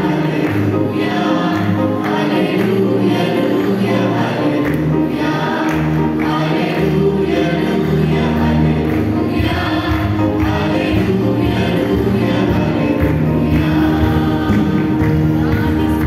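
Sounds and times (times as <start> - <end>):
youth choir singing worship song: 0.0 - 16.0.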